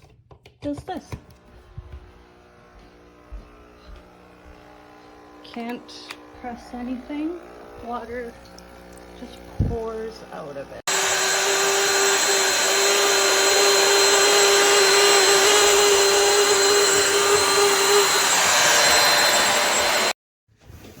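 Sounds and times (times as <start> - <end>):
floor washer suction motor: 1.2 - 20.2
motor whine: 1.4 - 20.2.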